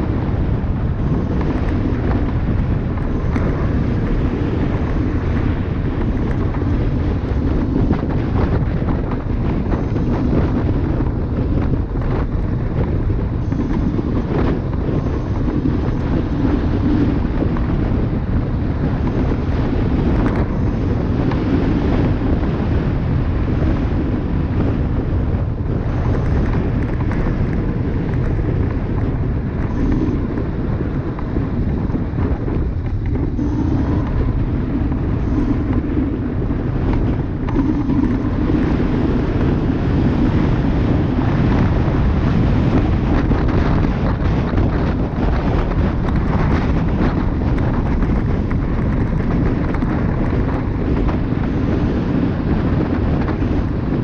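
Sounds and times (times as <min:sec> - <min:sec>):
scooter tyre rumble on asphalt: 0:00.0 - 0:54.0
wind buffeting microphone: 0:00.0 - 0:54.0.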